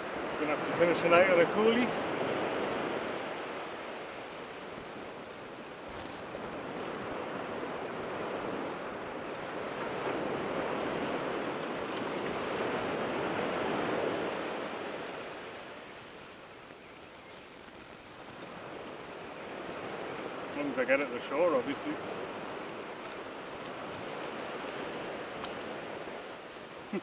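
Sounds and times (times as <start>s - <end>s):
surf breaking on beach: 0.0s - 27.0s.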